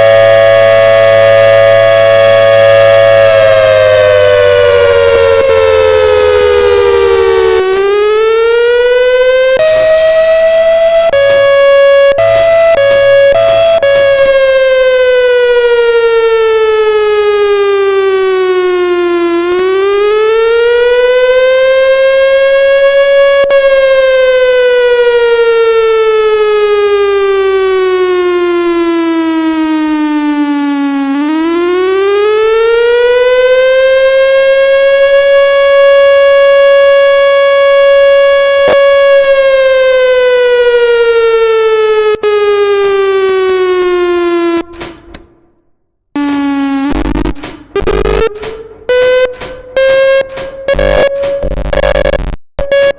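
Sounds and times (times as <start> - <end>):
warning siren wailing: 0.0 - 45.4, 46.2 - 52.9.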